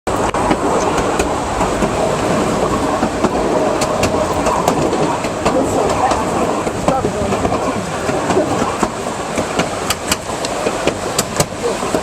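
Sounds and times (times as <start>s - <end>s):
train rumbling: 0.1s - 12.0s
wheels clicking on rails: 0.1s - 12.0s.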